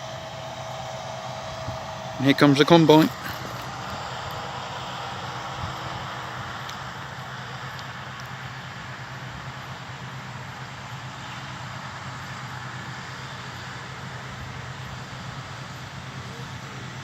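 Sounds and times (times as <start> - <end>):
harvest machinery droning: 0.0 - 17.0.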